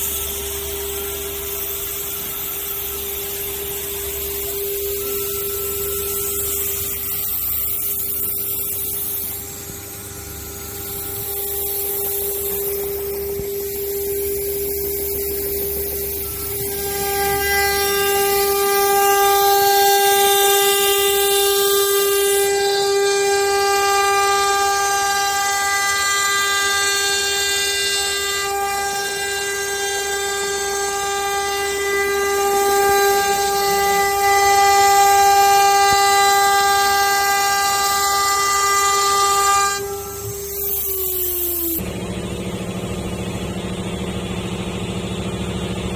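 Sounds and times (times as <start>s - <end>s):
router spindle whining: 0.0s - 45.9s.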